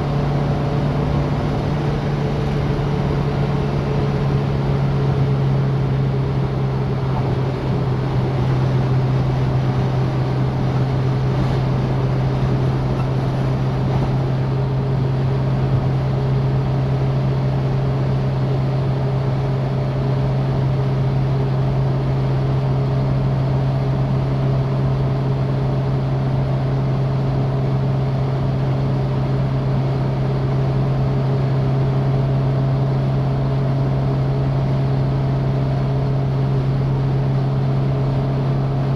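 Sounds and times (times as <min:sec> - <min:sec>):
car engine droning: 0:00.0 - 0:38.9
road and wind noise: 0:00.0 - 0:38.9.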